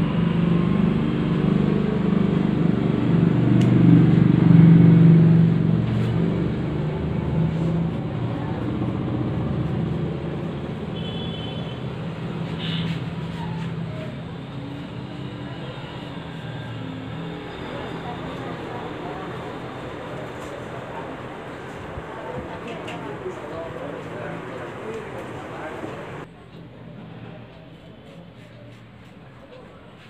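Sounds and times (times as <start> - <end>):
vehicle engine rumbling: 0.0 - 26.4.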